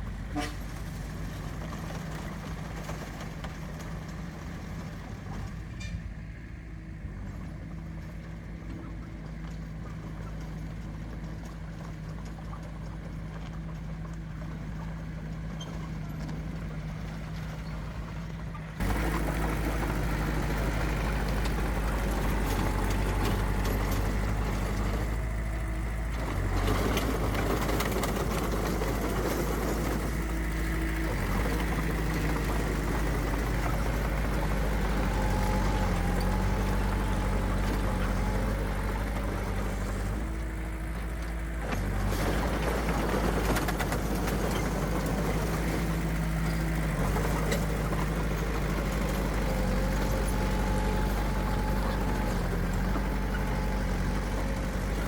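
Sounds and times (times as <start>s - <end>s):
diesel earthmover engine running: 0.0s - 55.0s.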